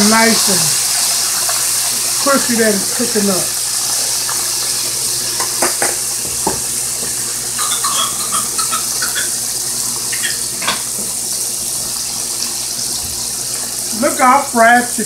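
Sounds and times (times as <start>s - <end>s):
deep frying sizzle: 0.0s - 15.0s.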